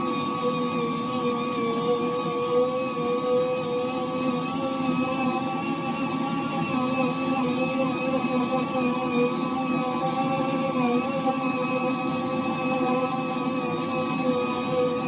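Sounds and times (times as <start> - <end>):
orbital sander motor whine: 0.0 - 15.0.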